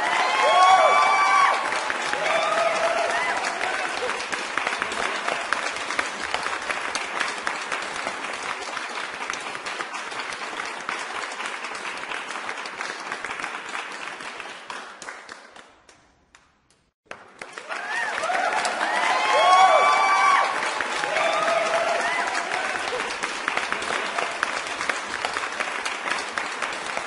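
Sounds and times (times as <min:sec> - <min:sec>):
crowd applause: 0:00.0 - 0:15.6, 0:17.1 - 0:27.0.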